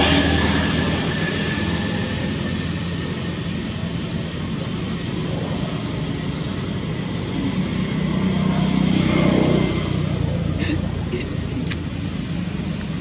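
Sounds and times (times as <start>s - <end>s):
engine-like rumble: 0.0s - 13.0s
haze of noise: 0.0s - 13.0s.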